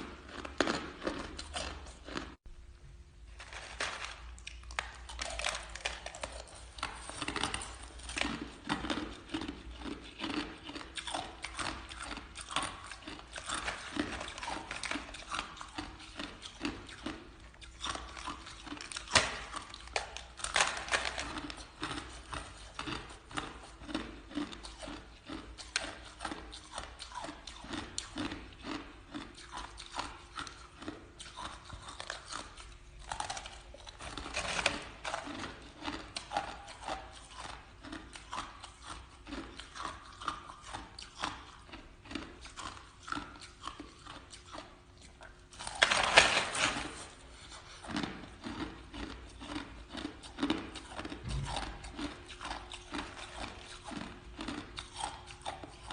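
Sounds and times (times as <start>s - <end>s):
ice being chewed: 0.0s - 2.4s, 3.4s - 55.9s.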